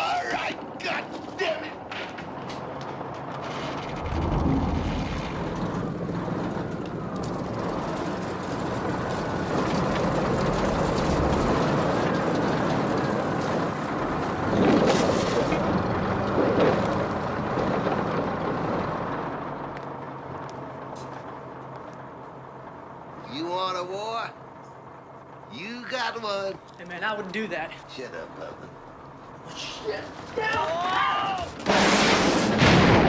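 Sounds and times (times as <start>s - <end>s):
heavy machine engine rumbling: 0.0s - 33.0s.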